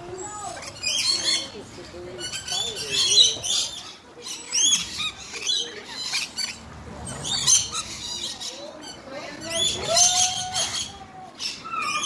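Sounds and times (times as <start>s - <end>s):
parrots screeching: 0.5s - 1.6s, 2.2s - 12.0s.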